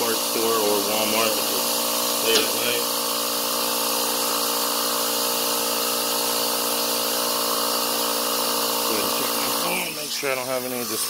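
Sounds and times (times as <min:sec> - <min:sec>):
air hissing: 0:00.0 - 0:11.0
tire inflator motor humming: 0:00.0 - 0:11.0.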